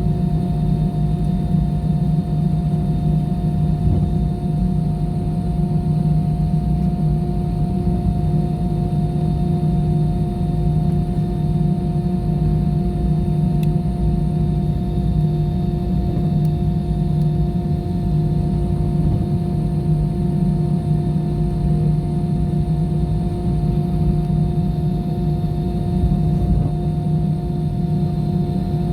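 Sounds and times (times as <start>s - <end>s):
airliner engines rumbling: 0.0s - 28.9s.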